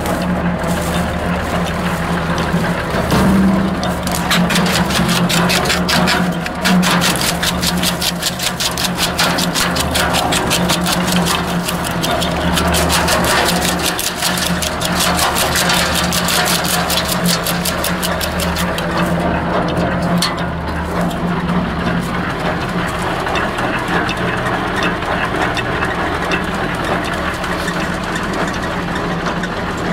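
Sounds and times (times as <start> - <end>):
wood chipper chopping branches: 0.0 - 29.9.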